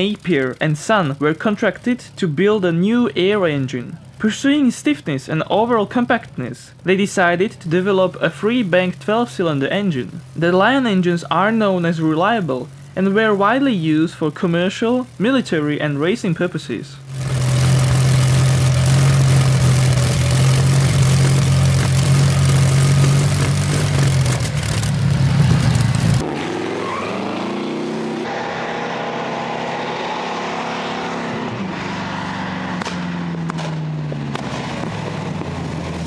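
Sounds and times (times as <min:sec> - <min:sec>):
aero engine droning: 0:00.0 - 0:36.0
racing car engine revving: 0:00.0 - 0:36.0.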